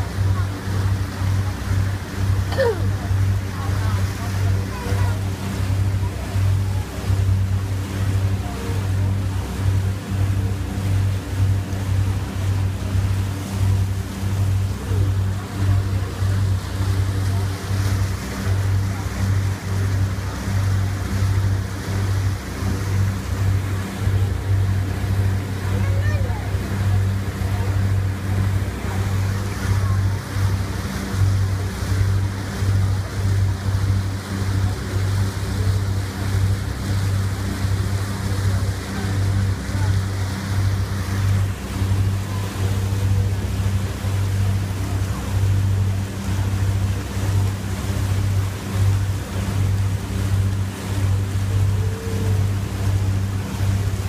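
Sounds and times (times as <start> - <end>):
boat engine droning: 0.0 - 54.0
water rushing along hull: 0.0 - 54.0.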